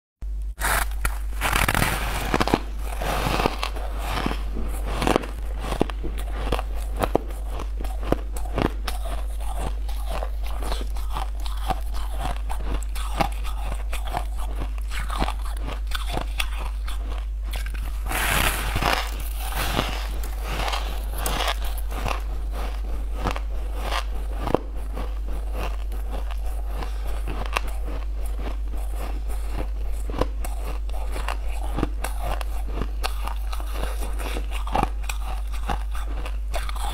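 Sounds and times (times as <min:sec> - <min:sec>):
crunching and chewing ice: 0:00.6 - 0:36.9.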